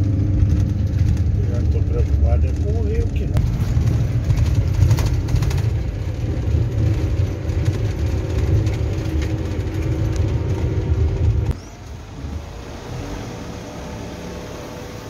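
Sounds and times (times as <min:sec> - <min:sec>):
vehicle rumble on dirt road: 0:00.0 - 0:15.0.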